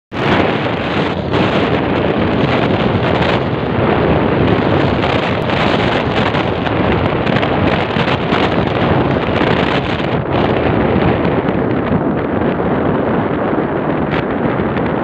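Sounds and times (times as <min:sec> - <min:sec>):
low rumble: 0:00.1 - 0:15.0
wind buffeting a microphone: 0:00.1 - 0:15.0.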